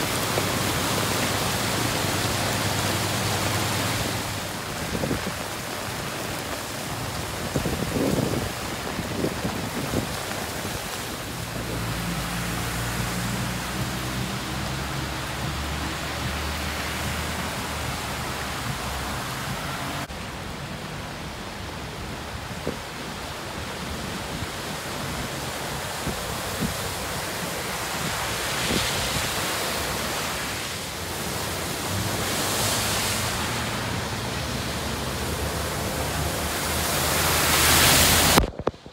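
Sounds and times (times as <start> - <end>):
cars splashing through floodwater: 0.0 - 38.9
heavy rain: 0.0 - 38.9.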